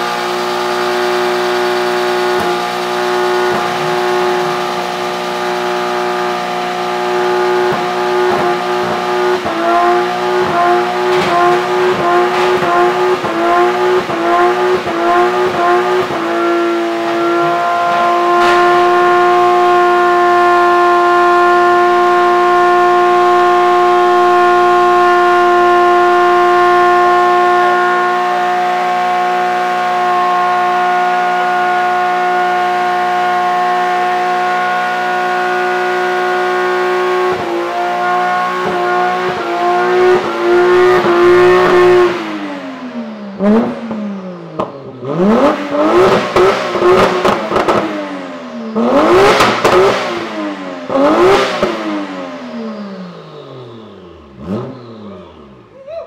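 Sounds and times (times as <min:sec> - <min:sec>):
exhaust cracks: 0:00.0 - 0:42.6, 0:43.2 - 0:55.9
car engine revving: 0:00.0 - 0:55.9.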